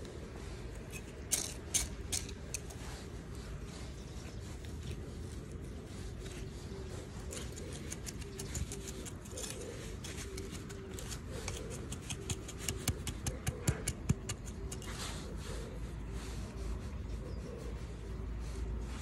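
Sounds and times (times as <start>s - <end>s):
soil rustling under hand: 0.0s - 19.0s
trowel scraping dry soil: 0.7s - 16.4s.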